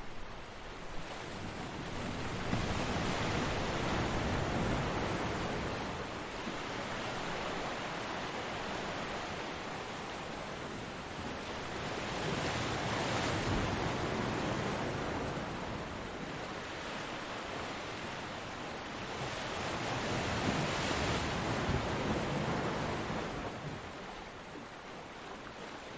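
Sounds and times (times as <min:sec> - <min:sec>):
waves breaking on a beach: 0:00.0 - 0:25.9.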